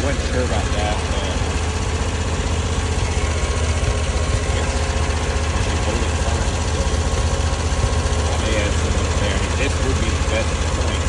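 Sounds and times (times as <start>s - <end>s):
small diesel engine running: 0.0s - 11.0s.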